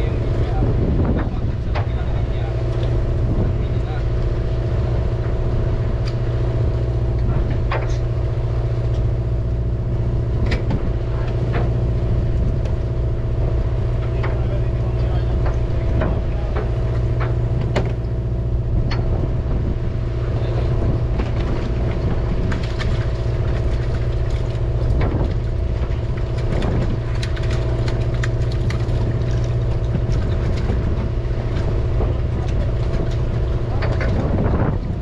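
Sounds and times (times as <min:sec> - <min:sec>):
boat engine humming: 0:00.0 - 0:35.0.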